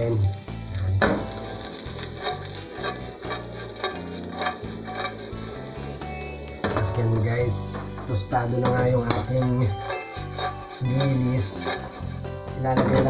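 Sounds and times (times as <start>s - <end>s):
fish sizzling in hot oil: 0.0s - 13.0s
wooden spatula scraping pan: 1.0s - 13.0s.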